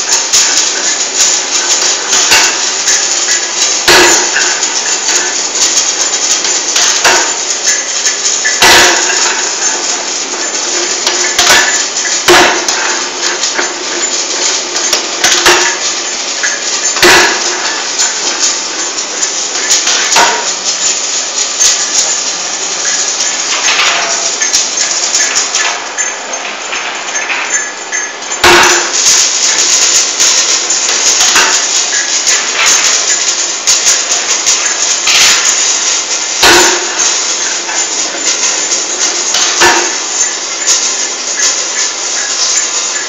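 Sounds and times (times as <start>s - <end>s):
machine metallic clatter: 0.0s - 43.0s.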